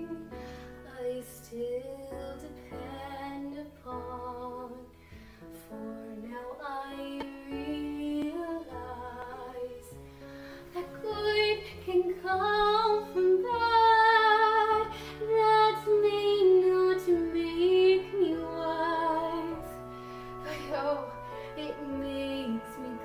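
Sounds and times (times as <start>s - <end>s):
girl singing a slow ballad: 0.0s - 23.0s
sustained backing accompaniment: 2.8s - 23.0s.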